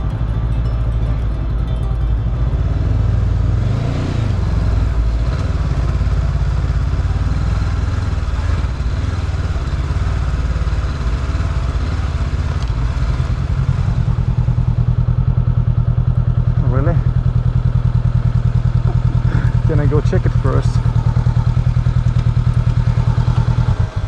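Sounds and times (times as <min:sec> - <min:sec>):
motorbike engine at low speed: 0:00.0 - 0:24.0.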